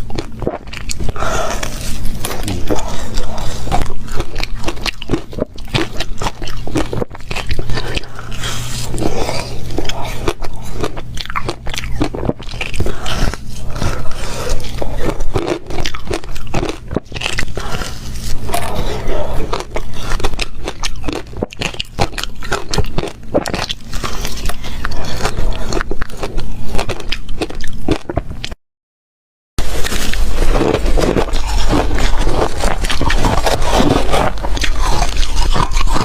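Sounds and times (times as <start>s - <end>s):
crunching and chewing ice: 0.0s - 28.6s, 29.6s - 36.0s.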